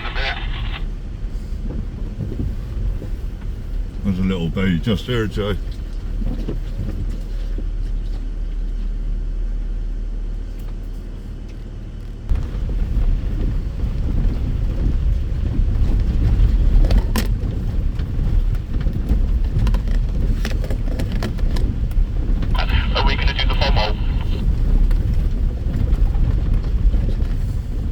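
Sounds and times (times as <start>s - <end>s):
vehicle engine and tyres rumbling: 0.0s - 27.9s.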